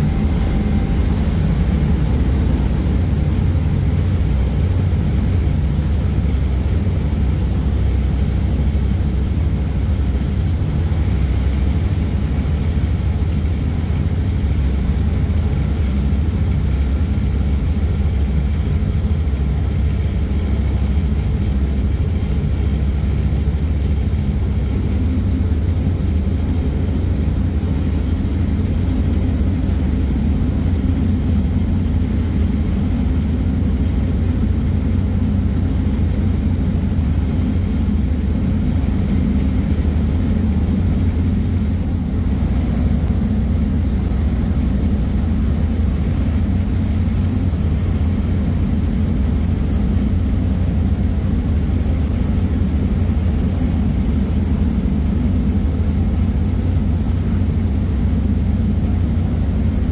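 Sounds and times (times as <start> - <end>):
churning wake rushing: 0.0 - 59.9
ferry engines droning: 0.0 - 59.9.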